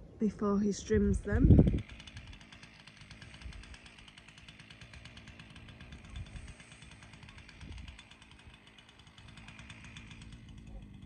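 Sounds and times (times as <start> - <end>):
low rumbles: 0.0 - 11.0
small petrol engine running: 0.2 - 11.0.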